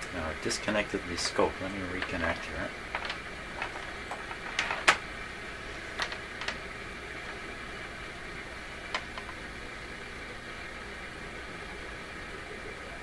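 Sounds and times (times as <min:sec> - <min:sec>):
radio speaker hiss and hum: 0:00.0 - 0:13.0.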